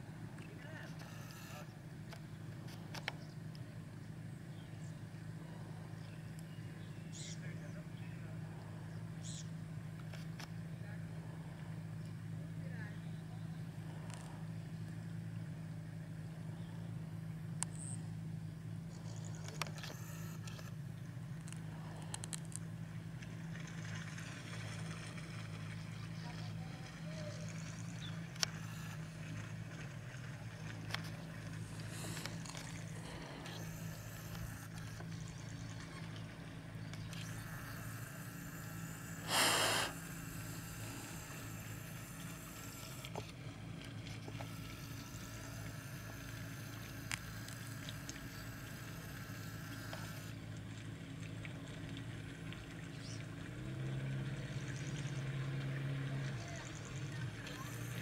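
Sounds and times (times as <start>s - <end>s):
boat motor humming: 0.0s - 58.0s.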